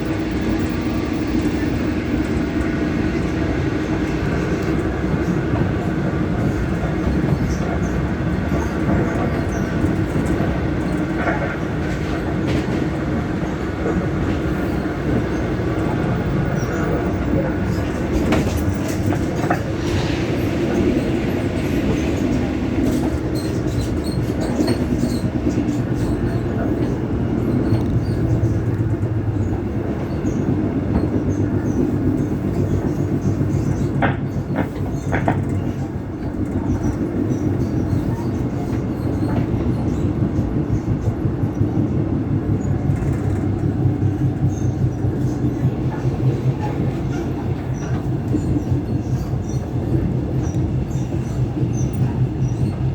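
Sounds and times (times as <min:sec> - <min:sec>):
train rolling noise: 0:00.0 - 0:52.9.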